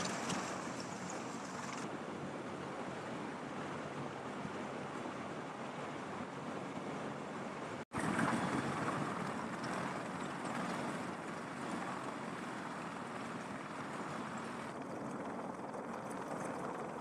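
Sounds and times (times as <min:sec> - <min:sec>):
helicopter engines and rotors roaring: 0:00.0 - 0:17.0.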